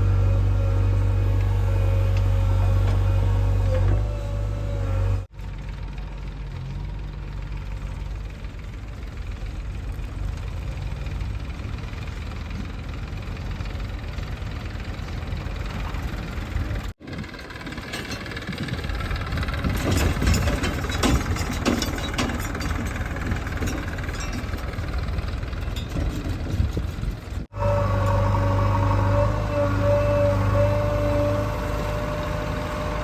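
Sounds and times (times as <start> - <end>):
diesel engine rumbling: 0.0 - 33.0.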